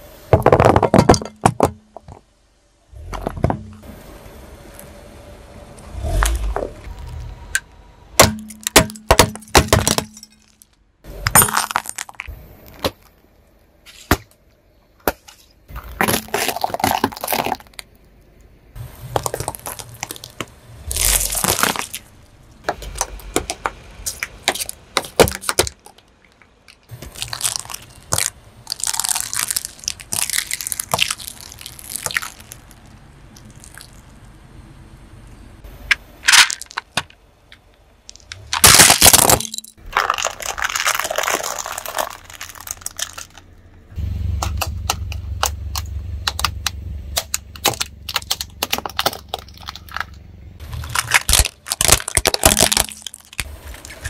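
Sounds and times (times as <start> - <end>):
objects cracking under car tyre: 0.3 - 2.3, 6.0 - 34.4, 35.8 - 54.0.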